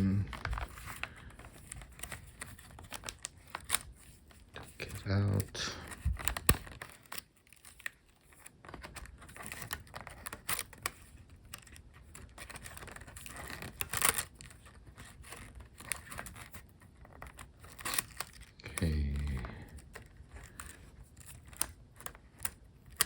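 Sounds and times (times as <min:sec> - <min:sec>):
small clicks and rustles: 0:00.1 - 0:23.0.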